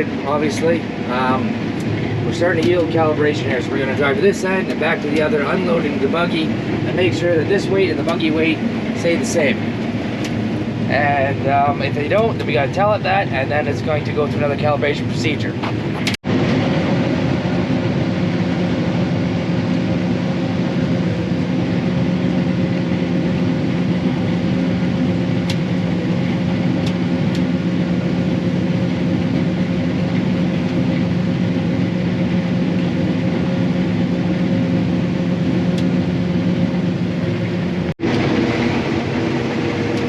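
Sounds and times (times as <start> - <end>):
combine harvester running: 0.0 - 40.0.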